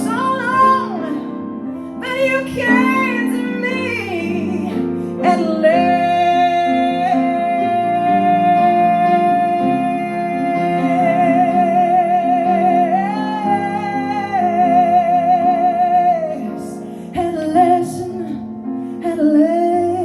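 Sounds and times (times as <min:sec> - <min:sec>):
piano chords: 0:00.0 - 0:20.0
woman singing with vibrato: 0:00.0 - 0:20.0.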